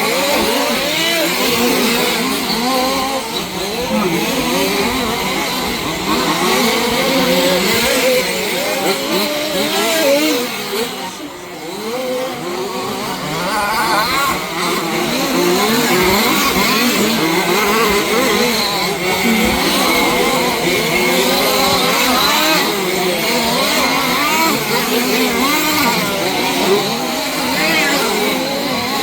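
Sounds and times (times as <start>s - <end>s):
rc car engines revving: 0.0s - 29.0s.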